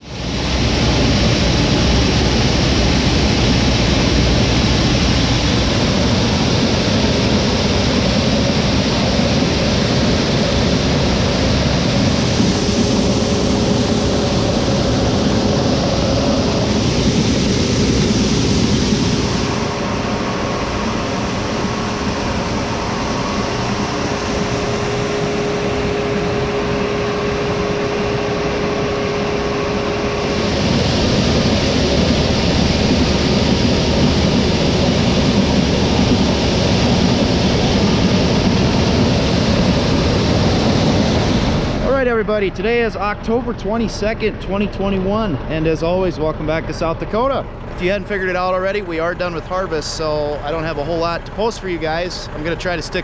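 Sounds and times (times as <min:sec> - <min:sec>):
heavy farm machinery running: 0:00.0 - 0:53.0
steady whine: 0:00.0 - 0:53.0.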